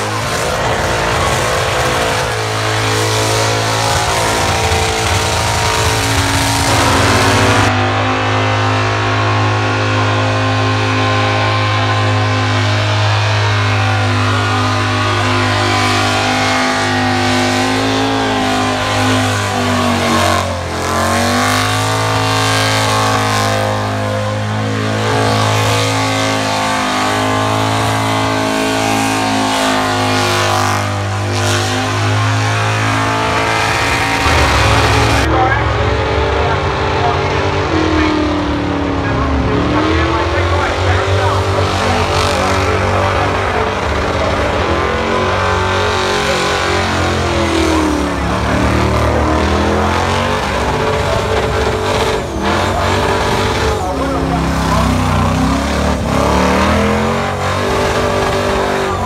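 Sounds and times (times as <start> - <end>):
car engine revving high: 0.0 - 59.0.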